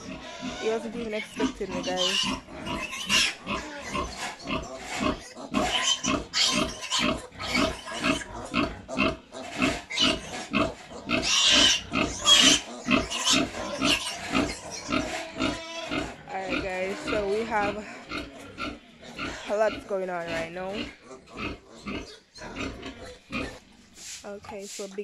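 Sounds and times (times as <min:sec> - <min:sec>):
pig squealing: 0:00.0 - 0:23.7
pigs grunting: 0:00.0 - 0:24.8.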